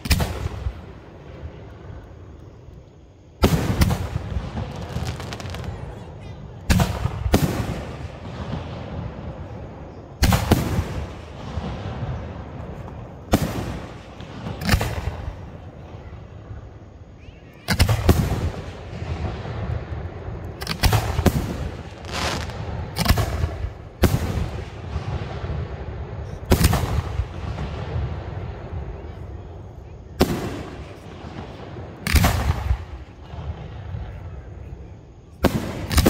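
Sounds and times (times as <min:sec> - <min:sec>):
fireworks bangs: 0:00.0 - 0:36.0.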